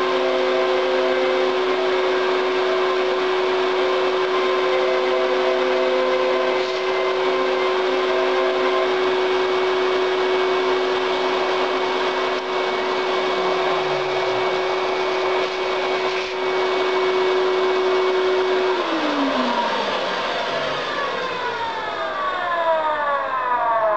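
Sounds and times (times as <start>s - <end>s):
router motor whining: 0.0s - 23.8s.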